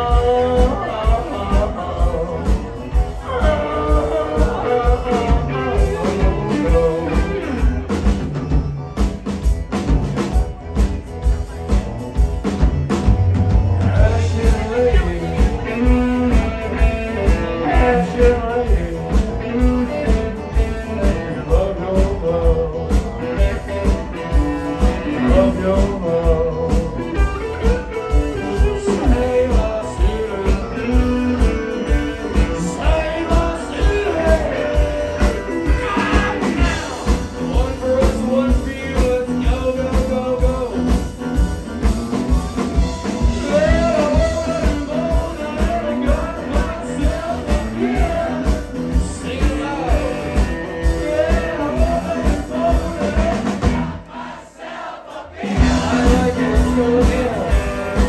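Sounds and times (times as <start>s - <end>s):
man singing: 0.0s - 8.2s, 12.8s - 41.9s, 42.6s - 54.0s, 55.4s - 58.0s
electric guitar: 0.0s - 54.0s, 55.6s - 58.0s
live rock band playing: 0.0s - 54.4s, 55.3s - 58.0s
drums beating: 0.0s - 58.0s.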